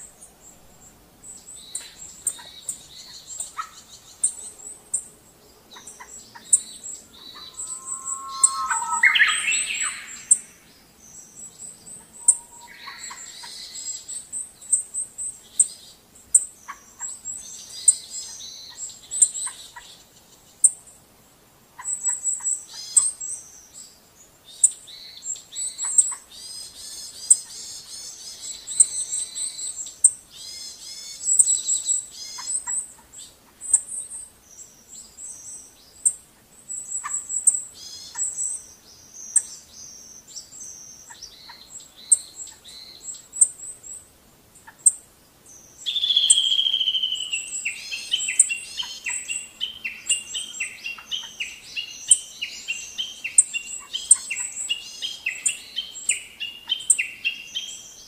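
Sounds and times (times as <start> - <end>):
birds chirping and trilling: 0.0 - 15.7, 24.5 - 58.0.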